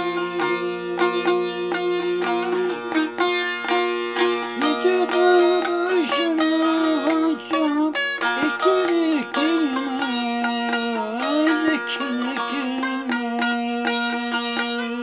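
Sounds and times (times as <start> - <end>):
plucked lute folk melody: 0.0 - 15.0.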